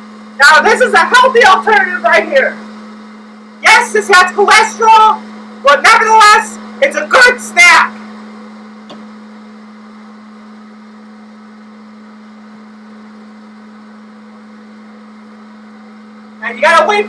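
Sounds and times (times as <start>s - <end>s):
popcorn popper humming: 0.0s - 17.0s.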